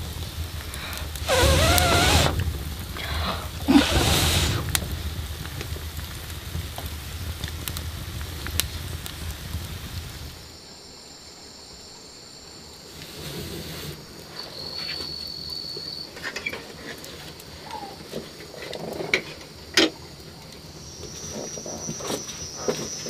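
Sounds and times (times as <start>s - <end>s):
insects trilling: 0.0s - 6.6s, 10.0s - 23.0s.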